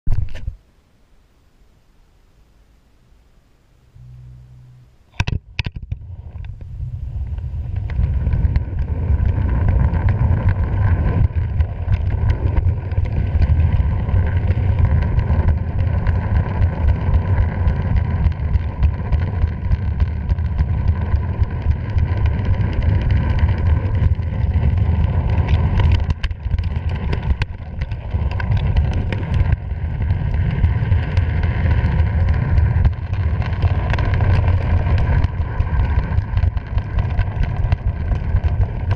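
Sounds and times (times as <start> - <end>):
wind buffeting microphone: 5.2 - 38.9.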